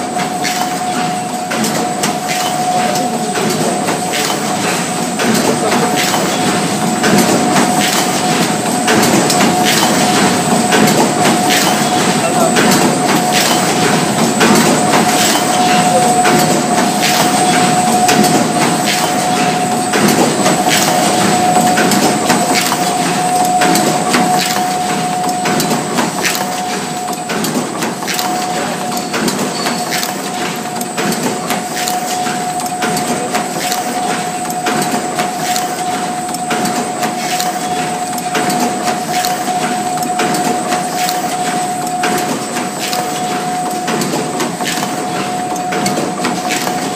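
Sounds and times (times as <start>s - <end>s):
machine mechanical clatter: 0.0s - 46.9s
steady machine whine: 0.0s - 46.9s.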